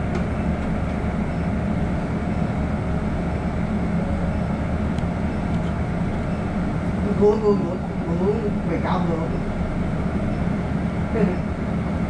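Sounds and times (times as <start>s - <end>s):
bus interior drone: 0.0s - 12.0s.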